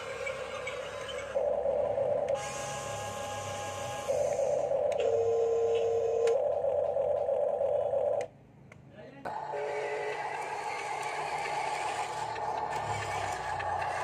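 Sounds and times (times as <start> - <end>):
electric motors whining: 0.0 - 8.3, 9.3 - 14.0.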